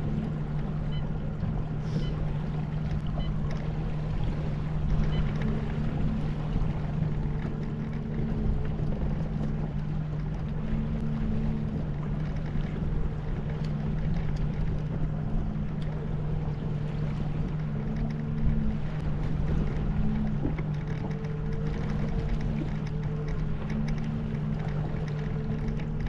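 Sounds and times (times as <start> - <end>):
boat motor humming: 0.0 - 26.0
water noise: 0.0 - 26.0
wind: 0.0 - 26.0.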